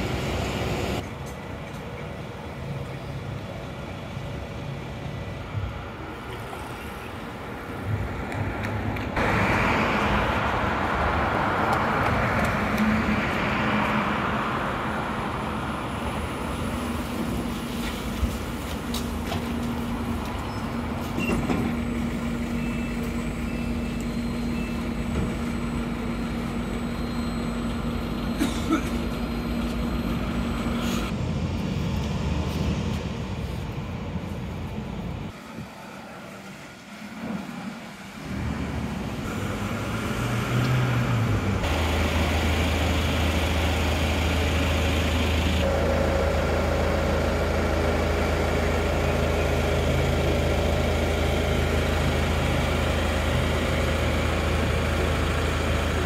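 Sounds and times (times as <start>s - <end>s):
bus engine and road noise: 0.0s - 56.0s
low engine hum: 0.0s - 56.0s.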